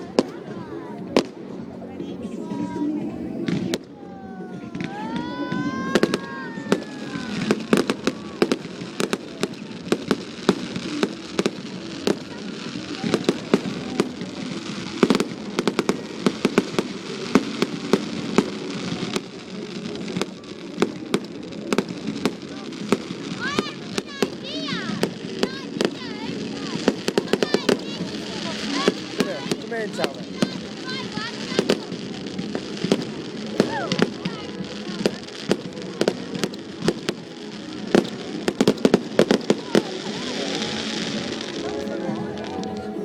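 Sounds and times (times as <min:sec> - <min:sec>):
fireworks bangs and cracks: 0:00.0 - 0:01.4, 0:03.4 - 0:43.0
fireworks crackling hiss: 0:00.0 - 0:43.0.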